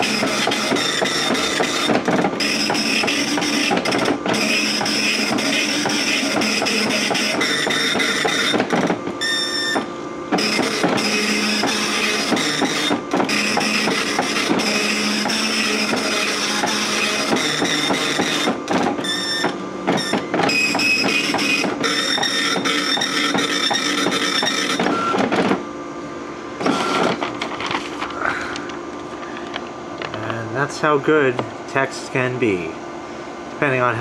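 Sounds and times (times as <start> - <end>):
dot matrix printer buzzing: 0.0 - 25.7, 26.6 - 28.3
pitched motor whine: 0.0 - 34.0.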